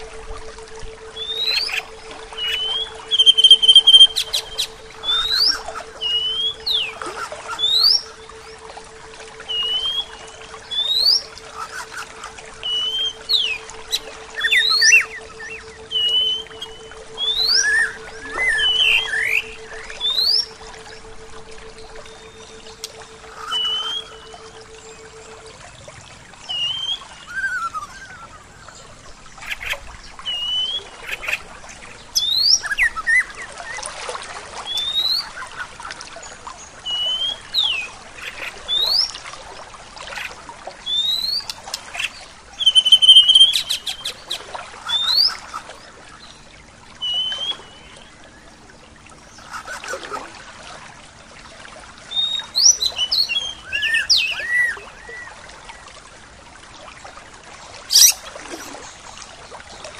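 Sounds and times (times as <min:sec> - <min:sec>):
songbirds calling: 0:00.0 - 0:39.4, 0:40.0 - 0:50.5, 0:52.0 - 0:56.0, 0:57.8 - 0:59.9
flowing water: 0:00.0 - 0:59.9.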